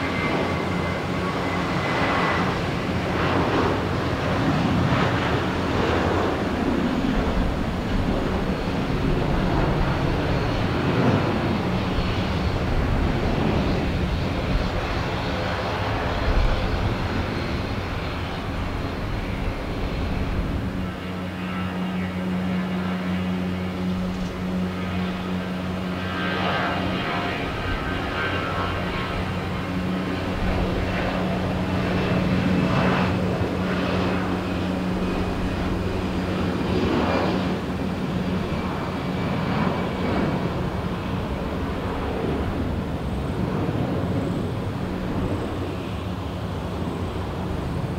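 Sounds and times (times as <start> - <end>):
airliner engines running: 0.0 - 47.9.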